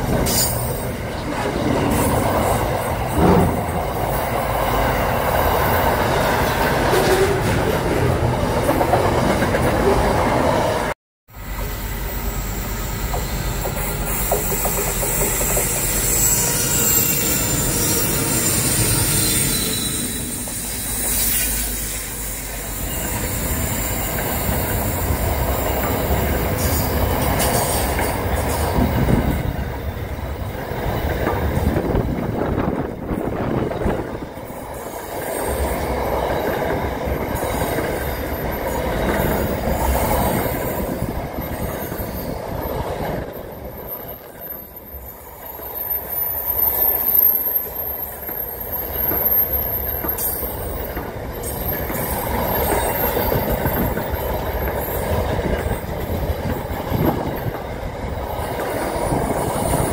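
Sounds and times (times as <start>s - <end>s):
train wheel squeal: 0.0s - 8.1s, 11.4s - 59.9s
freight train wheels rumbling: 0.0s - 59.9s.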